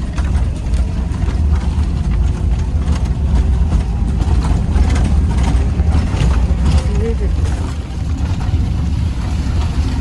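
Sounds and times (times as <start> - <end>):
knocks and rattles from bumps: 0.0 - 10.0
vehicle engine and road rumble: 0.0 - 10.0.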